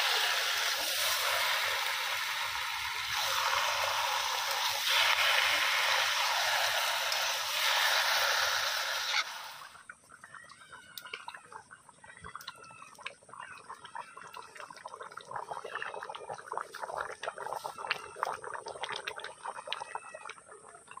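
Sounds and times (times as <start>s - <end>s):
curry bubbling and popping: 0.0s - 21.0s.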